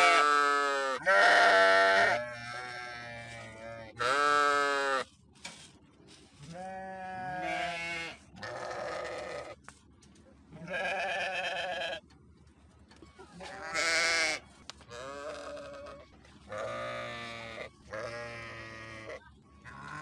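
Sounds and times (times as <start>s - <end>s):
sheep bleating: 0.0s - 5.1s, 6.4s - 9.6s, 10.6s - 12.0s, 13.4s - 20.0s.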